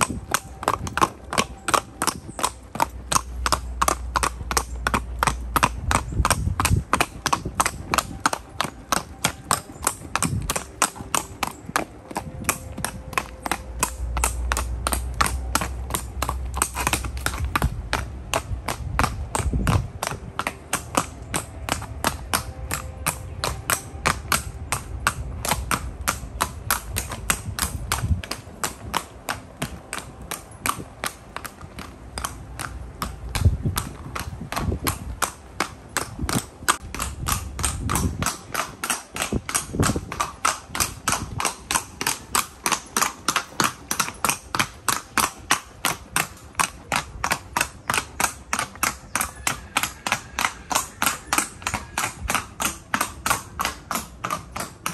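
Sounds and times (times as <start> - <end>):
horse hooves on cobblestones: 0.0 - 54.9.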